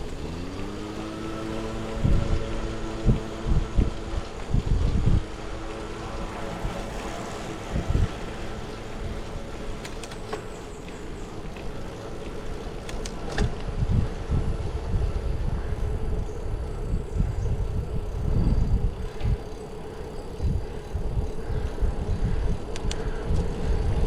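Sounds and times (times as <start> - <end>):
steady hum: 0.0 - 24.0
wind buffeting microphone: 0.0 - 24.0.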